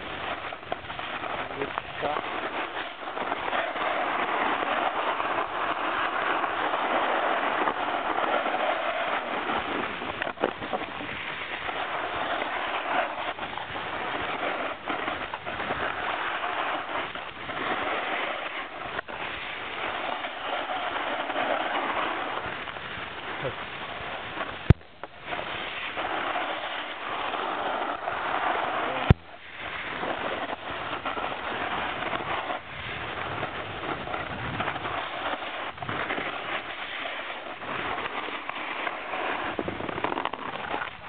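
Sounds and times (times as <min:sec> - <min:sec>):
snowboard scraping over snow: 0:00.0 - 0:41.0.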